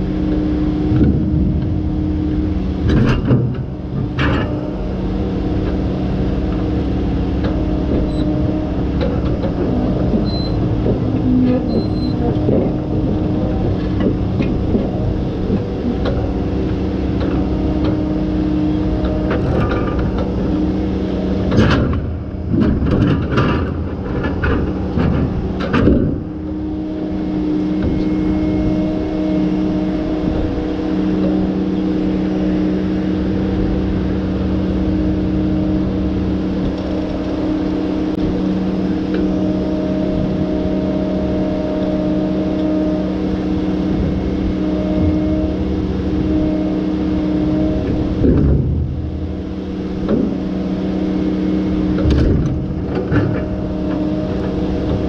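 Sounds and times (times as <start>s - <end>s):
diesel engine and hydraulics: 0.0s - 55.0s.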